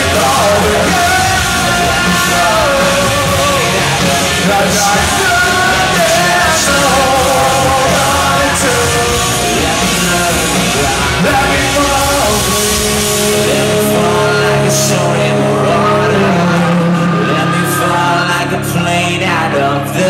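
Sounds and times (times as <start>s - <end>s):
live rock band playing: 0.0s - 20.0s
man singing lead vocals: 0.0s - 20.0s.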